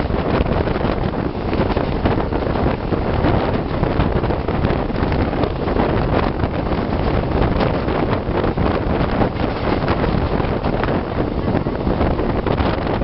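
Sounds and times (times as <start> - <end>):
train wheels rumbling: 0.0 - 13.0
wheels clicking on track: 0.0 - 13.0
wind buffeting microphone: 0.0 - 13.0.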